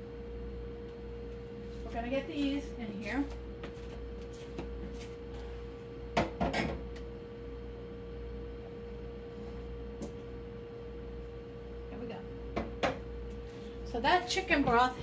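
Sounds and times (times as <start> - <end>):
steady tonal hum: 0.0 - 15.0.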